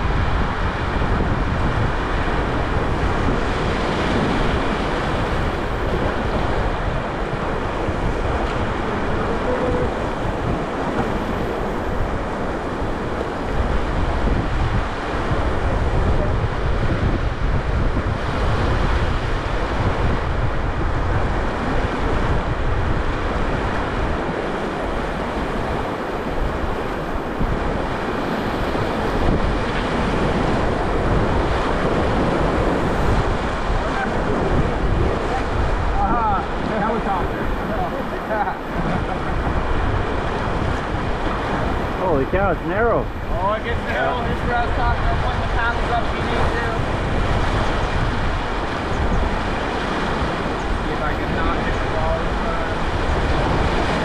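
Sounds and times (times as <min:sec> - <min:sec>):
river water rushing: 0:00.0 - 0:54.0
wind buffeting microphone: 0:00.0 - 0:54.0.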